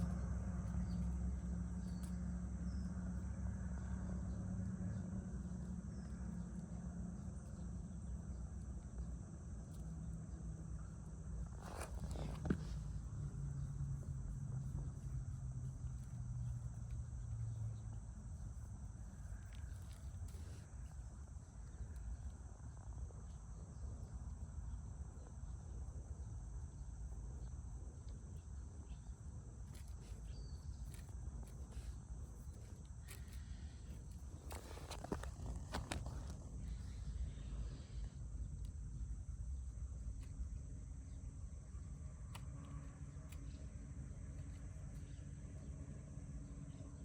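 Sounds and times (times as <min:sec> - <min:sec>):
insects trilling: 0:00.0 - 0:47.0
low hum: 0:00.0 - 0:47.0
low outdoor rumble: 0:00.0 - 0:47.0.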